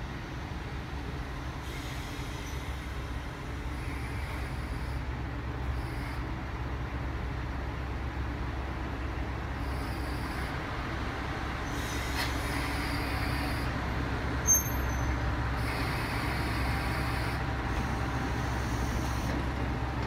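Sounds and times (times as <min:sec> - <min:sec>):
diesel railcar engine idling: 0:00.0 - 0:20.0.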